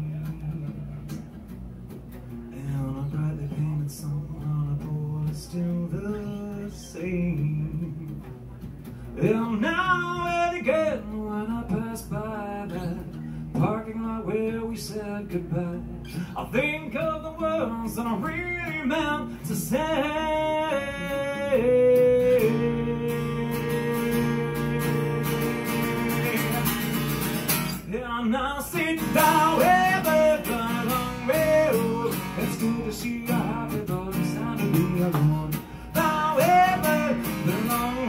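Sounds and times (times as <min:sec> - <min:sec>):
man singing: 0:00.0 - 0:01.0, 0:02.5 - 0:08.3, 0:09.2 - 0:38.0
acoustic guitar: 0:00.0 - 0:38.0.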